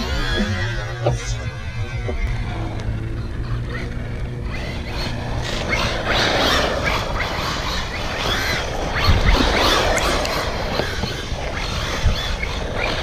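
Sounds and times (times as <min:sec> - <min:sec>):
low rumble: 0:00.0 - 0:12.0
electric motor whining: 0:00.0 - 0:13.0.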